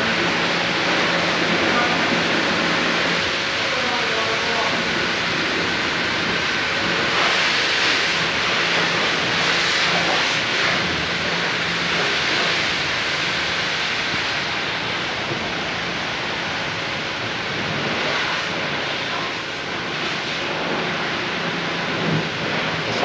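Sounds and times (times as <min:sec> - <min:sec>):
pressure washer spraying water: 0:00.0 - 0:23.0.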